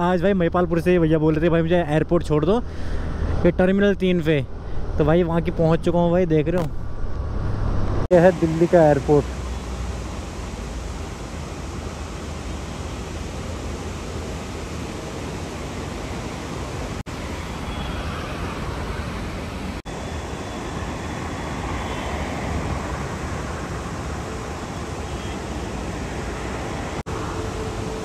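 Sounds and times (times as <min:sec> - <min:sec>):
wind and road noise: 0:00.0 - 0:28.0.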